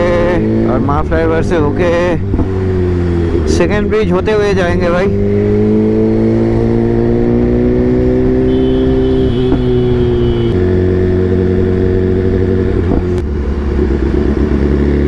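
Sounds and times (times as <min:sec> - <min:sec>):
loud motorcycle engine: 0:00.0 - 0:15.0.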